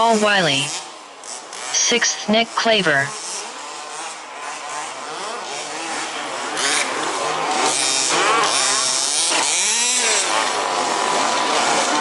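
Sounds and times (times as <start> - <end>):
small two-stroke engines revving: 0.0 - 12.0.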